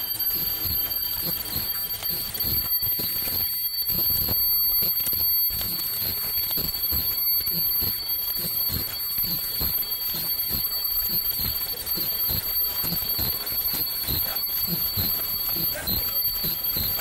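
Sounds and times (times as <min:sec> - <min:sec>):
high-pitched machine whine: 0:00.0 - 0:17.0.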